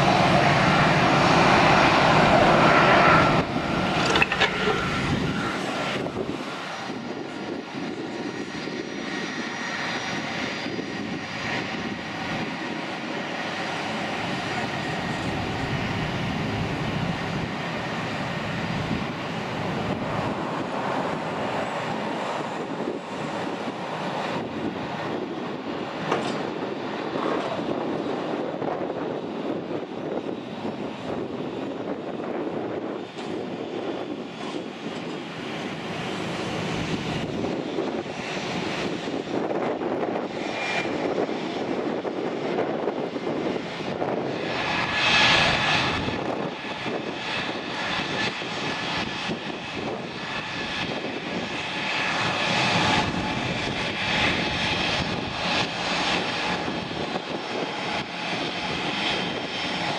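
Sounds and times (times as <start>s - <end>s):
airliner jet engines whining: 0.0s - 59.9s
business jet engines taxiing: 0.0s - 59.9s.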